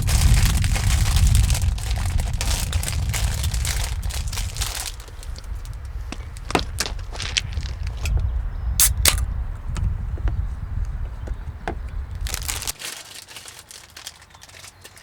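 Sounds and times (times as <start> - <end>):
crinkling and crunching: 0.0 - 9.3, 11.2 - 15.0
low rumble: 0.0 - 12.8.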